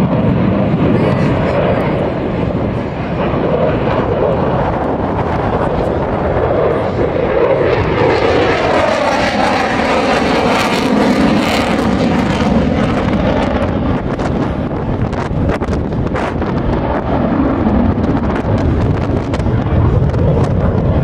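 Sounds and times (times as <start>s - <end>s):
fighter jet engine roaring: 0.0s - 21.0s.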